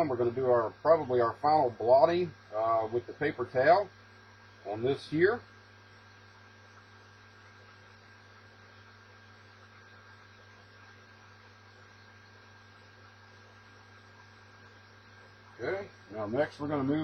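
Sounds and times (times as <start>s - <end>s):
faint hiss: 0.0s - 17.0s
low electrical hum: 0.0s - 17.0s.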